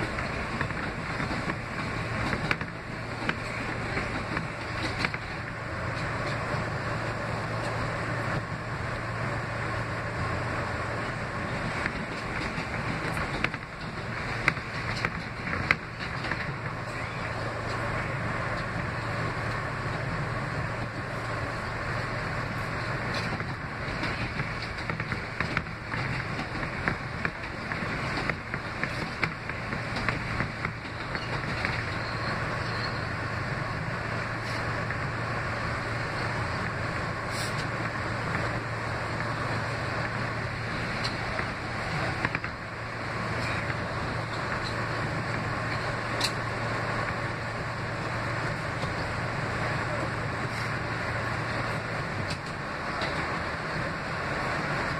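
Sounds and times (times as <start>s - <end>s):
subway car wheels on rail: 0.0s - 54.9s.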